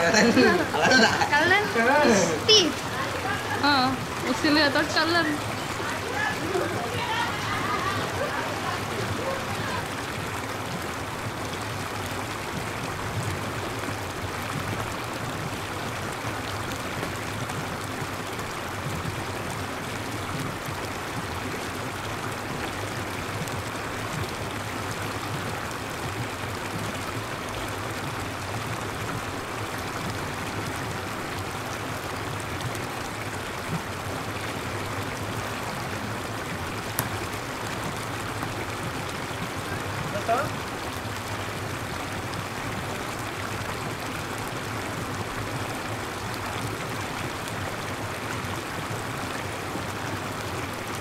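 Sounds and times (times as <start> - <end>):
running water rushing: 0.0 - 51.0.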